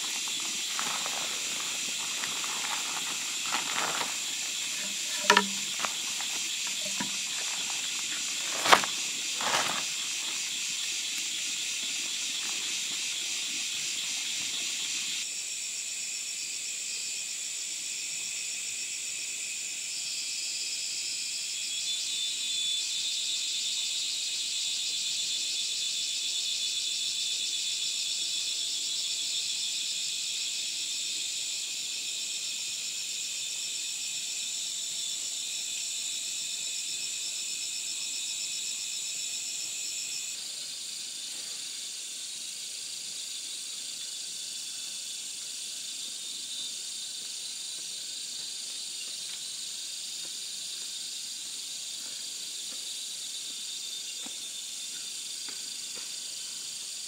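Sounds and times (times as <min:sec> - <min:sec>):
forest insects chorus: 0:00.0 - 0:57.0.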